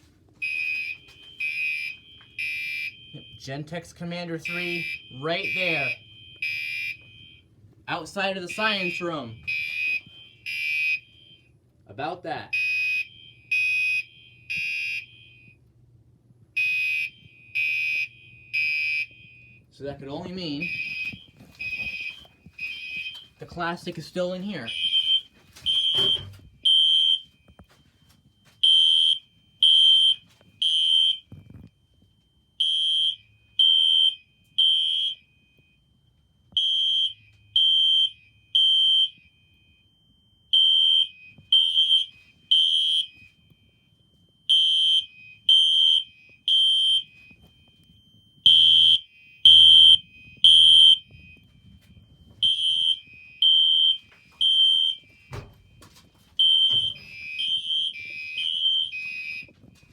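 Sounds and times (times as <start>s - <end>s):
fire alarm horn beeping: 0.4s - 15.7s, 16.6s - 59.9s.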